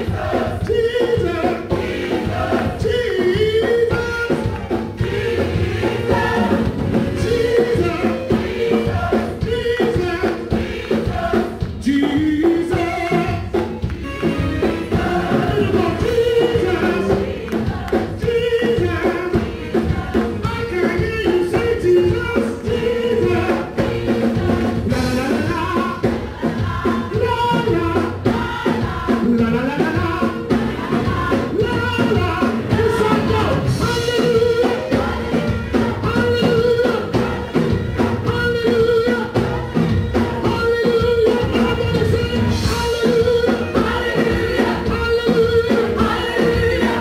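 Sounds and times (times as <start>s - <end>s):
backing singers: 0.0s - 47.0s
drums: 0.0s - 47.0s
keyboards: 0.0s - 47.0s
lead singer: 0.0s - 47.0s.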